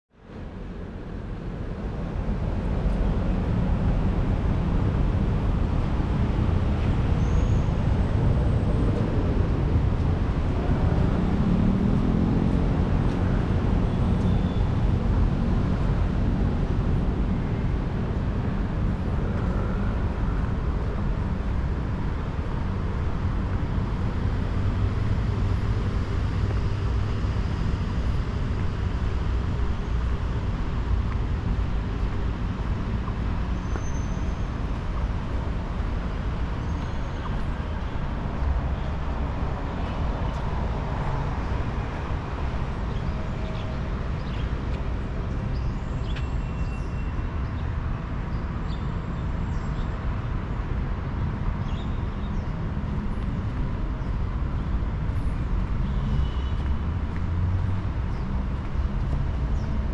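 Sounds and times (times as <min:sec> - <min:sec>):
road traffic rumble: 0:00.2 - 0:59.9.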